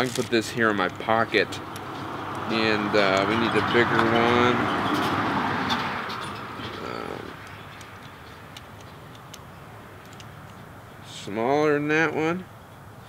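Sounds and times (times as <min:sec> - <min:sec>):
car passing: 0:00.6 - 0:11.1.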